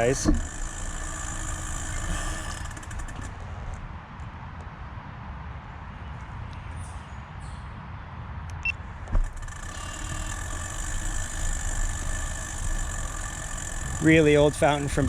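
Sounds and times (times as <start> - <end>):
vehicle engine rumble and whine: 0.0 - 15.0.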